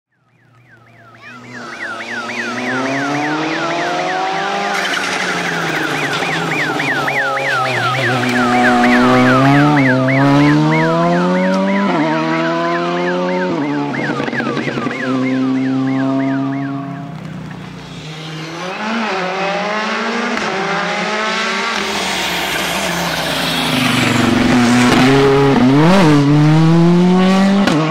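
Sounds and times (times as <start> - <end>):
siren warbling fast: 0.3 - 26.3
car engine revving: 0.6 - 27.9.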